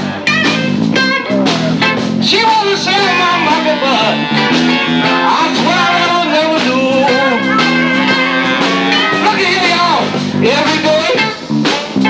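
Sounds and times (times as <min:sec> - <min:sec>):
guitar lines bending in pitch: 0:00.0 - 0:11.5
held low bass notes: 0:00.0 - 0:12.0
drum hits: 0:00.5 - 0:11.0.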